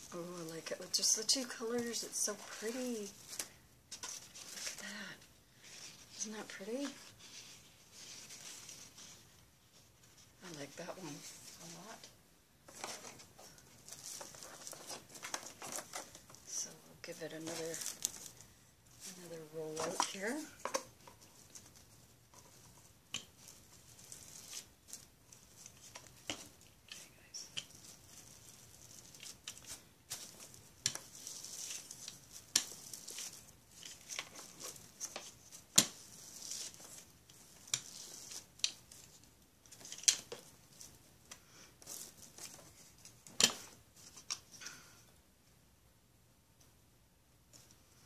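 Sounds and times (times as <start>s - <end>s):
plastic wrap crinkling: 0.0s - 44.6s.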